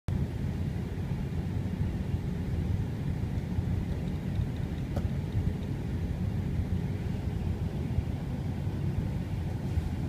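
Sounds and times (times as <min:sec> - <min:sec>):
low rumble of engines and wheels: 0:00.1 - 0:10.0.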